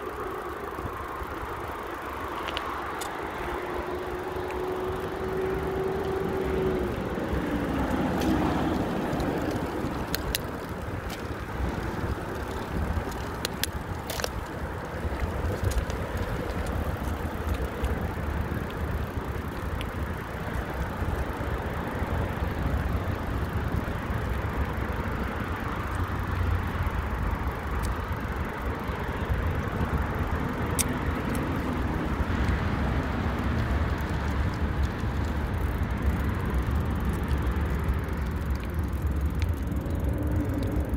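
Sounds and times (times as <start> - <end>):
bicycle clicks and rattles: 0.0 - 40.9
tyres rolling on rough asphalt: 0.0 - 40.9
wind buffeting microphone: 2.6 - 40.9.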